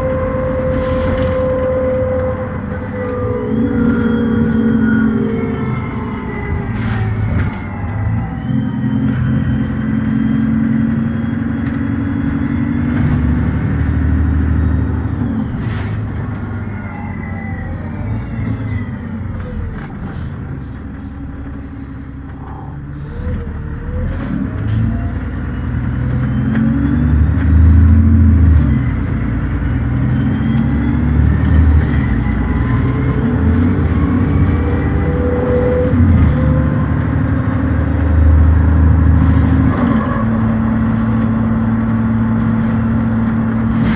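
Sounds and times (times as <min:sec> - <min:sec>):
bus engine accelerating: 0:00.0 - 0:43.9.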